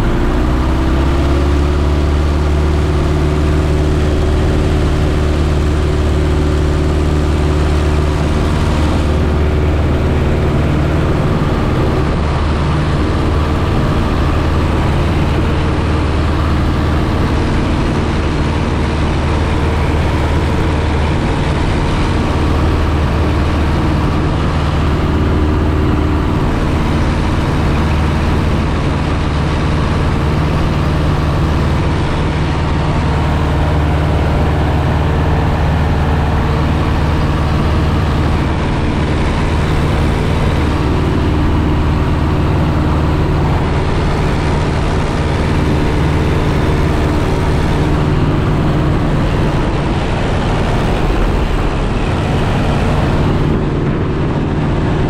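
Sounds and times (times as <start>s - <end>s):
plane engine and propeller: 0.0s - 55.0s
rush of air: 3.4s - 55.0s.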